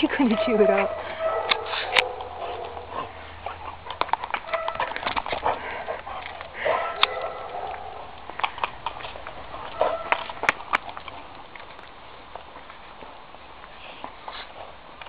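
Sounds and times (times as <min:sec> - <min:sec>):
dog claws tapping on asphalt: 0:00.7 - 0:15.0.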